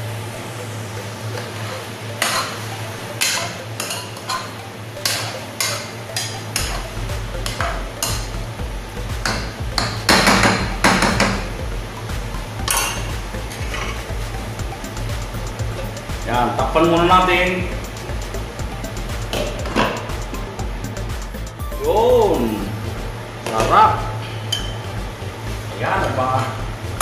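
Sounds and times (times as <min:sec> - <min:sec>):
steady low hum: 0:04.4 - 0:27.0.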